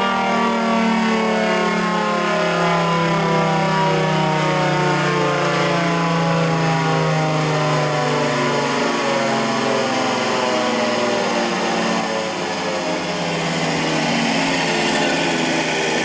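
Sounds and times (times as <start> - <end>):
warning siren with falling pitch: 0.0 - 16.0.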